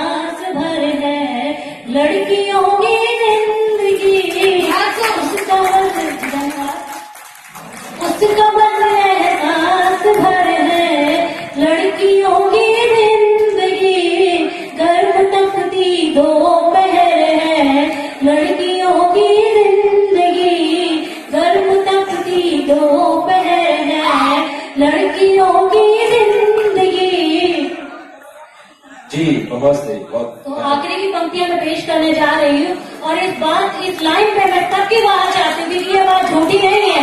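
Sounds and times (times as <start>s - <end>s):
woman singing unaccompanied: 0.0s - 7.0s, 8.0s - 27.9s, 30.5s - 37.0s.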